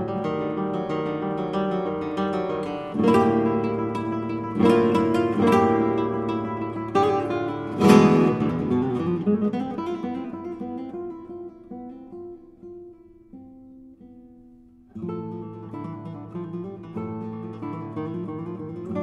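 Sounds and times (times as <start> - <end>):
acoustic guitar plucked notes: 0.0 - 19.0
acoustic guitar strummed chords: 0.0 - 19.0.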